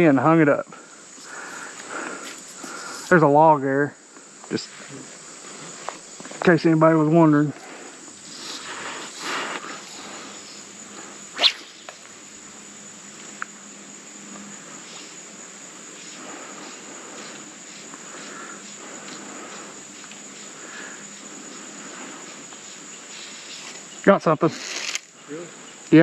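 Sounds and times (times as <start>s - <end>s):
faint background hiss: 0.0s - 26.0s
high-pitched insect chorus: 0.0s - 26.0s.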